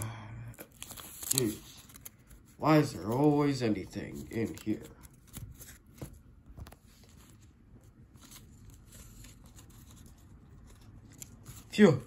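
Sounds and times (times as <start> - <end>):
faint room noise: 0.0 - 12.0
paper rustling and crinkling: 0.6 - 12.0.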